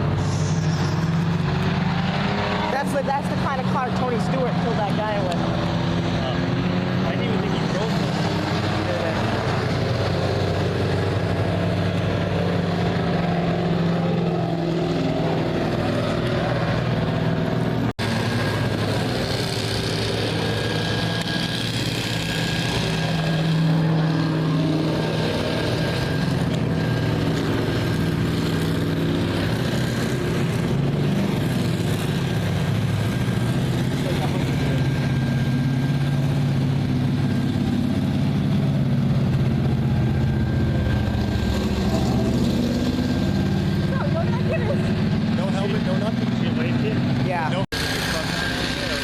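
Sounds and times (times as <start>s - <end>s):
race car engines running: 0.0s - 49.0s.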